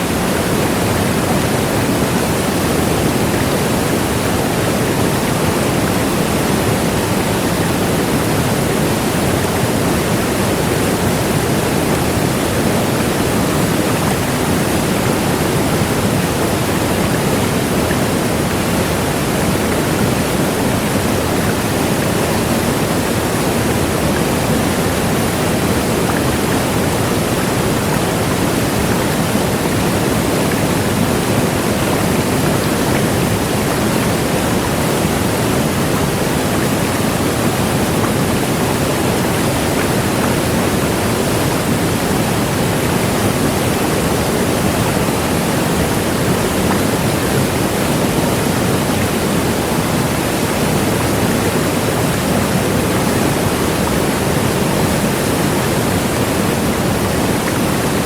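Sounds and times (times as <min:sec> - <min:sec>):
waterfall crashing: 0:00.0 - 0:58.0.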